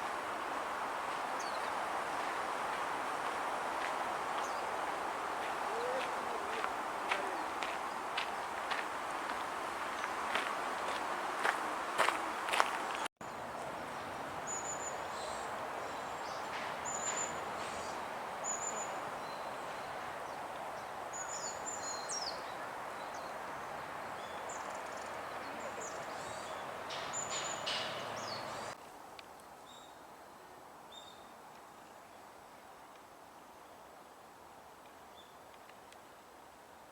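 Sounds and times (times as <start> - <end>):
outdoor background hiss: 0.0 - 36.9.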